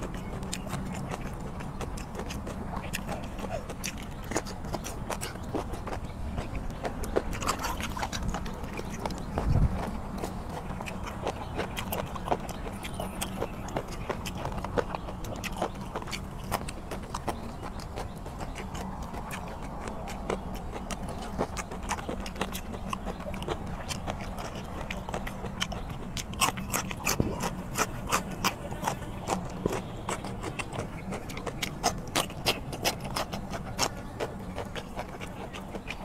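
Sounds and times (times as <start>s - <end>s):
crunching and chewing raw bean: 0.0s - 36.0s.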